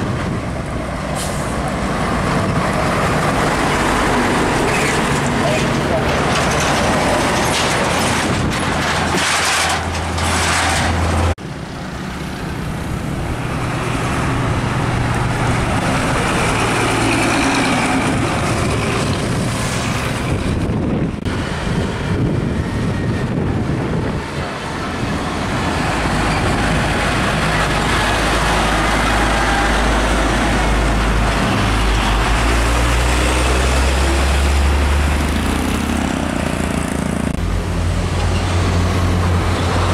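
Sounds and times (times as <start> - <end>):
diesel trucks passing: 0.0 - 39.9
tyre and road noise: 0.0 - 39.9.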